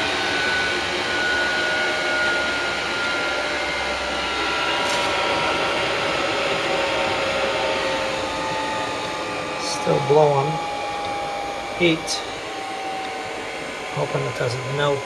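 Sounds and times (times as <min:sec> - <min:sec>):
heater blower rushing air: 0:00.0 - 0:15.0.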